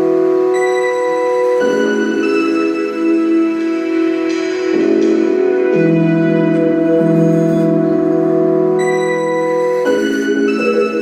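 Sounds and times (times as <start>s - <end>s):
sustained chord: 0.0s - 11.0s.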